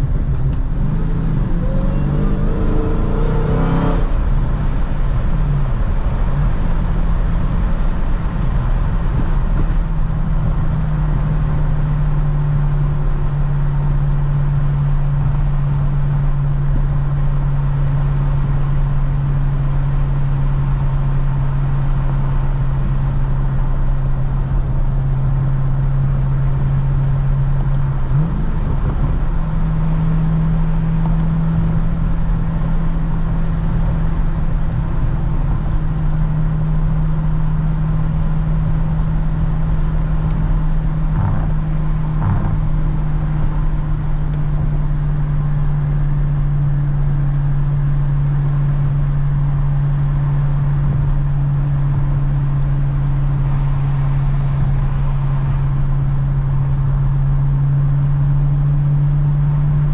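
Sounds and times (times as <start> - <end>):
car engine drone from cabin: 0.0 - 59.9.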